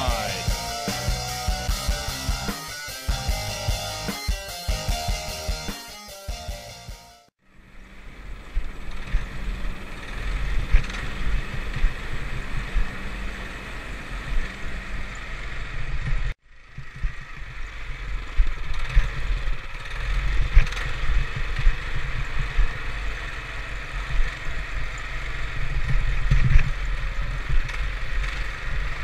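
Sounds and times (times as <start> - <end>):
atv engine rumbling: 0.0 - 2.5, 7.6 - 29.0.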